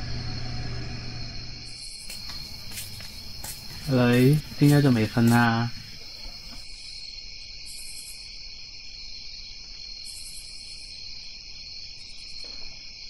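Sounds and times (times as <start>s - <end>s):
crickets chirping: 0.0s - 13.0s
high insect trill: 0.0s - 13.0s.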